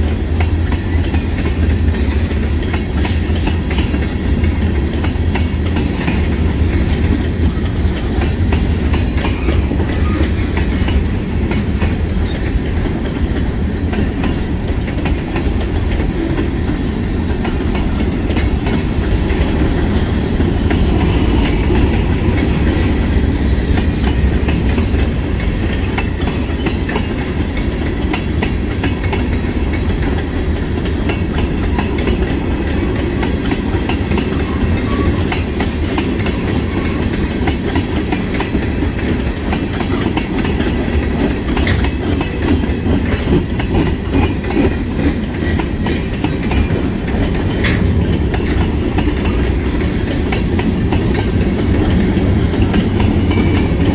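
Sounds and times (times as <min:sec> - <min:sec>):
freight train wheels rumbling on rail: 0:00.0 - 0:53.9
wheels clacking over rail joints: 0:00.0 - 0:53.9.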